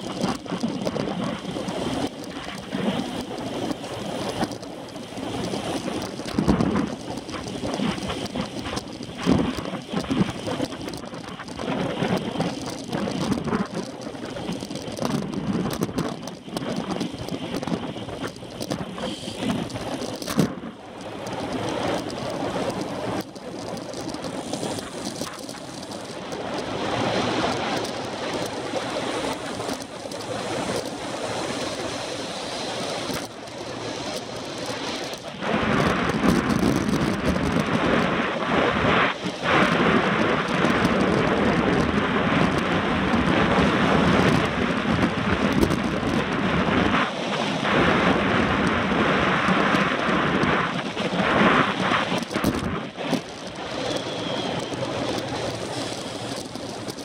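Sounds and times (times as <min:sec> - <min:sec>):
bike tyre noise on road: 0:00.0 - 0:57.0
wind buffeting microphone: 0:00.0 - 0:57.0.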